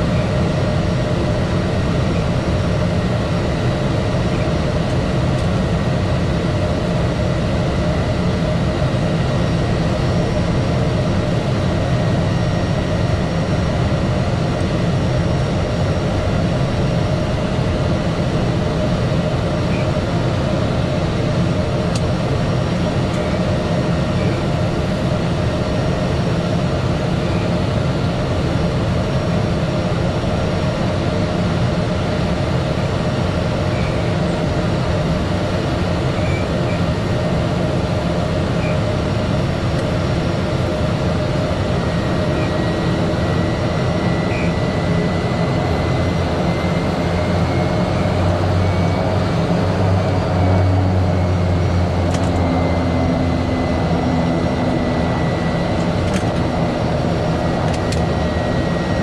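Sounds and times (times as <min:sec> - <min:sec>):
turboprop engine and propeller: 0:00.0 - 0:59.0.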